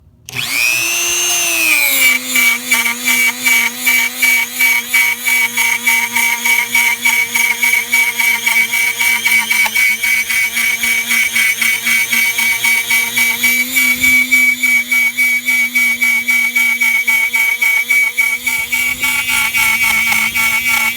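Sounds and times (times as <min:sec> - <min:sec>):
rotary tool cutting plastic: 0:00.3 - 0:20.9.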